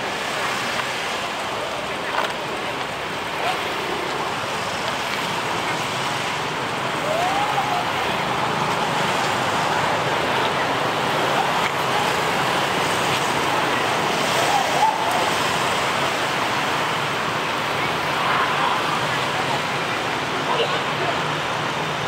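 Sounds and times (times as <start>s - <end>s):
city traffic hum: 0.0s - 22.0s
faint voices: 0.0s - 22.0s.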